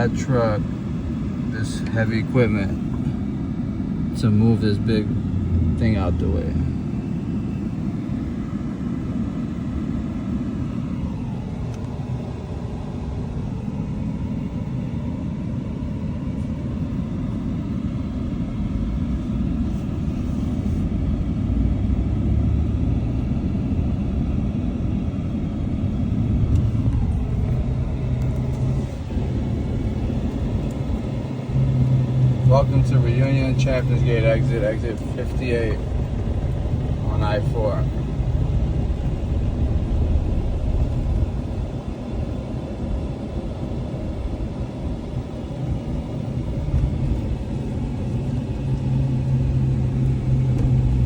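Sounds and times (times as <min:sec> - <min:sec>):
highway traffic rumble: 0:00.0 - 0:51.0
vehicles passing with falling whine: 0:00.0 - 0:51.0.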